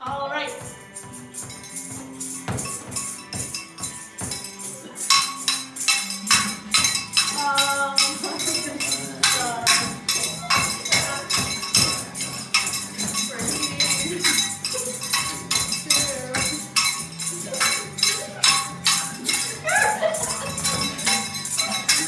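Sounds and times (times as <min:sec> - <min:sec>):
cowbell struck hard: 0:01.4 - 0:22.0.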